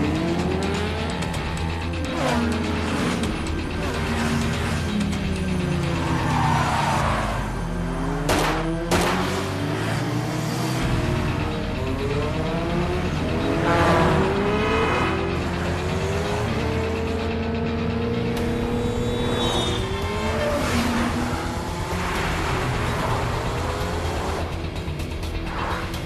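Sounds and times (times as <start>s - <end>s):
engines revving: 0.0s - 26.0s
vehicles rushing past: 0.0s - 26.0s.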